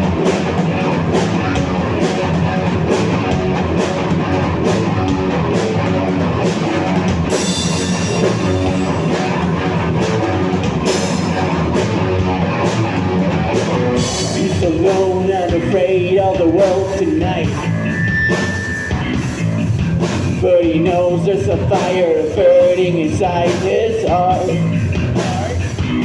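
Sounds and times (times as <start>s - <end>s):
live rock band: 0.0s - 26.0s
melodic lead line: 0.0s - 26.0s.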